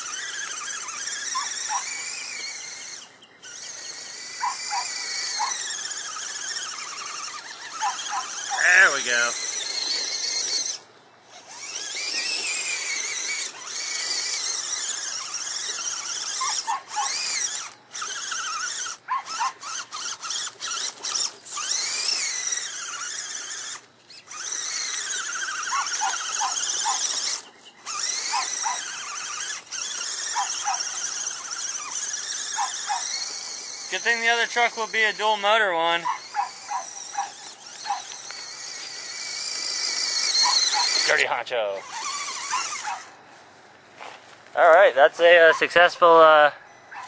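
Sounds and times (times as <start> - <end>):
electric motor whining: 0.0 - 43.4.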